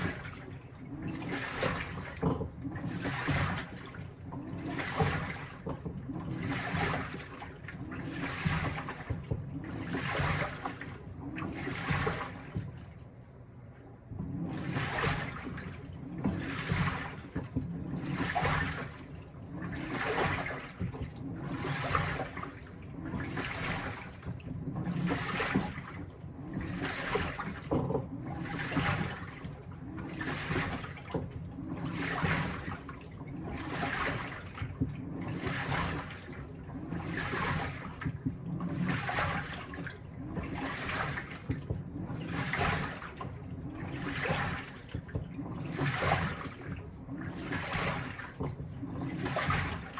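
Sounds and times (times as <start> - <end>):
washing machine sloshing laundry: 0.0 - 49.9.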